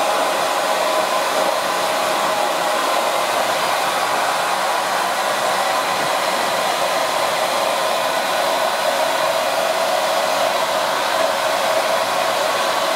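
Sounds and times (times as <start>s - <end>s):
hair dryer running: 0.0s - 12.9s.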